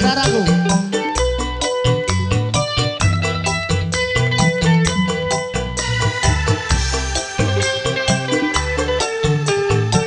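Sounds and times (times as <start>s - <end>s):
bass: 0.0s - 10.0s
electronic keyboard: 0.0s - 10.0s.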